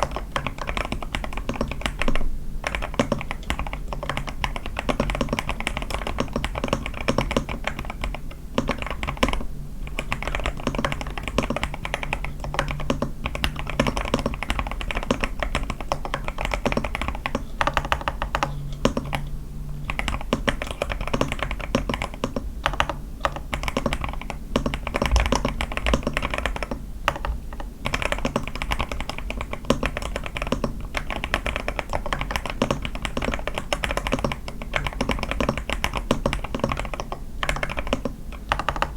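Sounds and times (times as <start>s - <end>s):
fast typing on mechanical keyboard: 0.0s - 19.3s, 19.9s - 38.9s.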